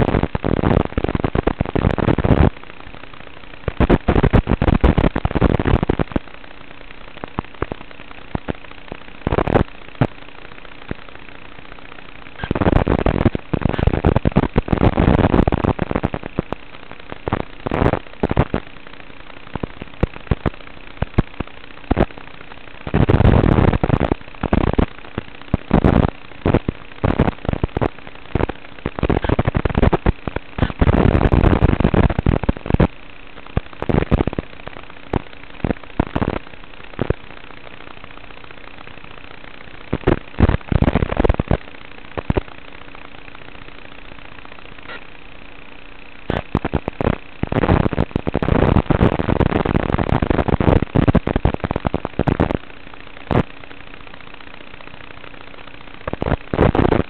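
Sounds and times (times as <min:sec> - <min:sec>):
crackling static bursts: 0:00.0 - 0:57.0
faint steady hum: 0:00.0 - 0:57.0.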